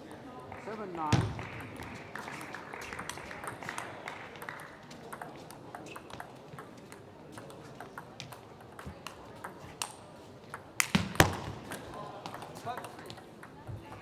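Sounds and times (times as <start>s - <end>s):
table tennis balls clicking: 0.6s - 14.0s.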